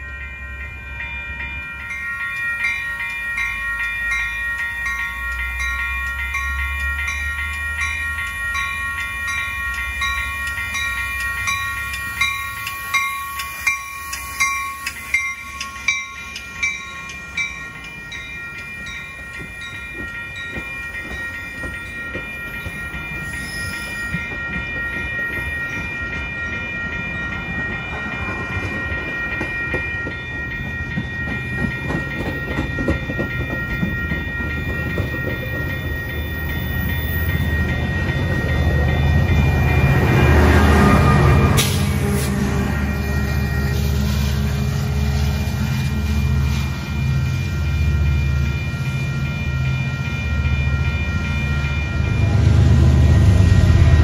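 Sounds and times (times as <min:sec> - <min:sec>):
railroad crossing bell ringing: 0:00.0 - 0:54.0
train rumble: 0:00.0 - 0:54.0.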